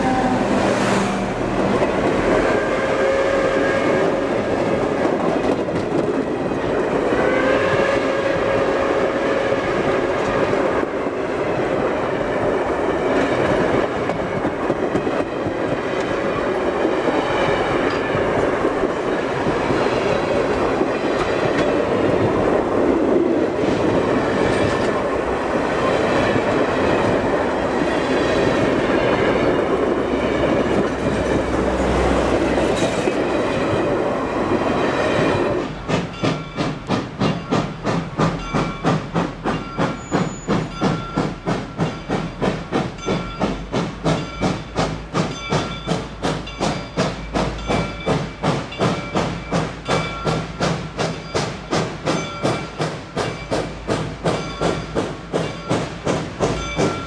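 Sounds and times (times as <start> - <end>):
railcar wheels rolling on rails: 0.0 - 57.0
steam locomotive chuffing: 0.0 - 57.0.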